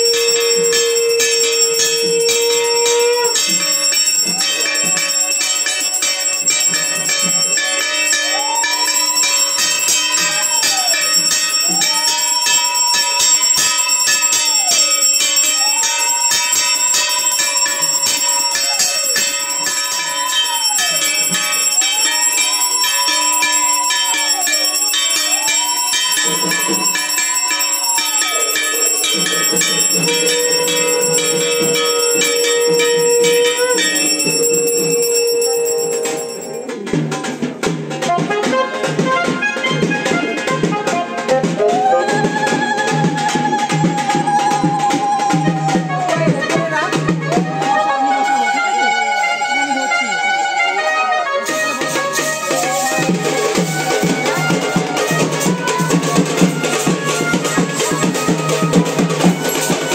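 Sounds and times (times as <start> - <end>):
bells and clashing metal percussion: 0.0 - 59.9.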